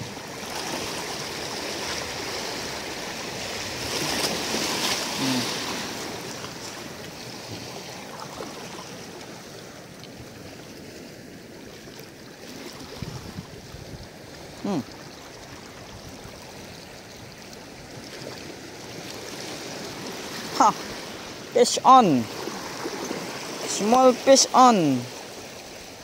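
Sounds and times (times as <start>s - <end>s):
water lapping and sloshing: 0.0s - 26.0s.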